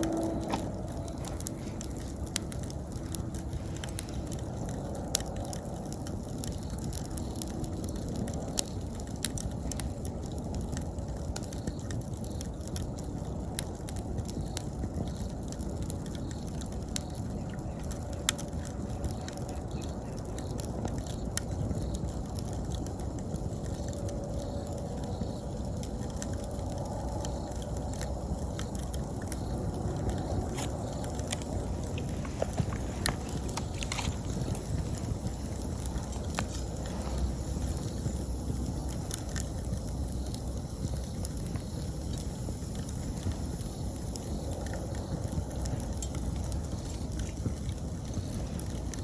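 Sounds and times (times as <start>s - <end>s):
burning wood crackling and popping: 0.0s - 49.0s
insects chirping: 0.0s - 49.0s
wood fire burning: 0.0s - 49.0s.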